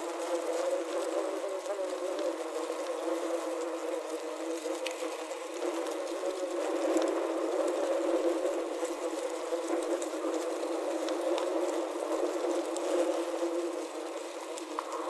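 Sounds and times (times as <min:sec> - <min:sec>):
faint ticks: 0:00.0 - 0:15.0
wasps buzzing in a bottle: 0:00.0 - 0:15.0.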